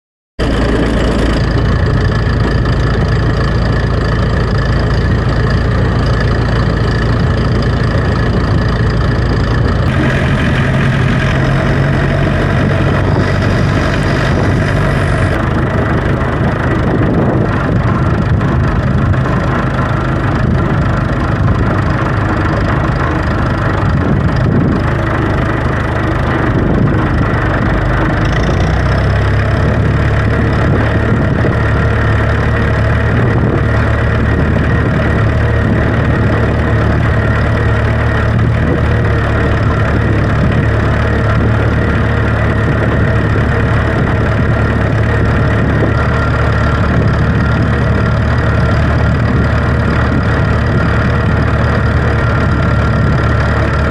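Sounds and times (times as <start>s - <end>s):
engine running: 0.4s - 53.9s.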